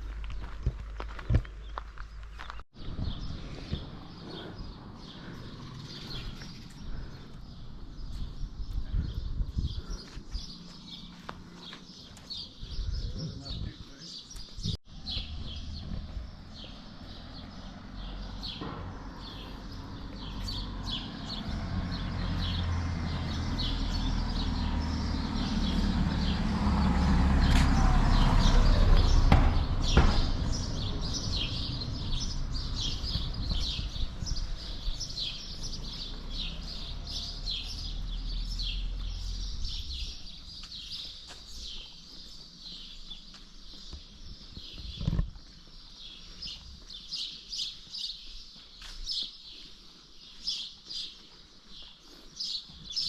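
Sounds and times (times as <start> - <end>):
small birds chirping: 1.3 - 53.0.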